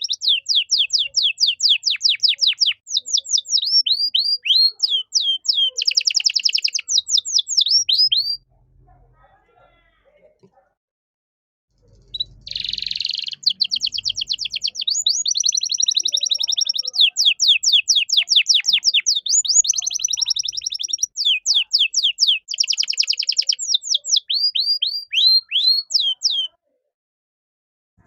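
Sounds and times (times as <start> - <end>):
canary singing: 0.0 - 8.6, 11.8 - 26.6.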